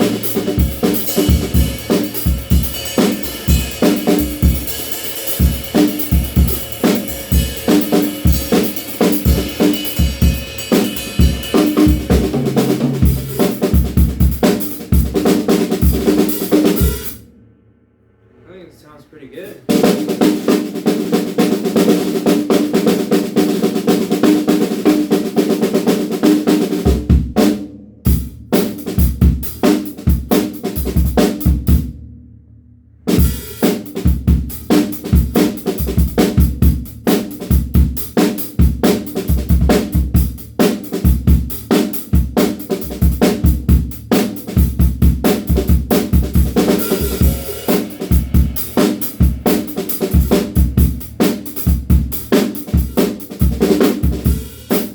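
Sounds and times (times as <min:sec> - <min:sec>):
drum kit playing: 0:00.0 - 0:54.9.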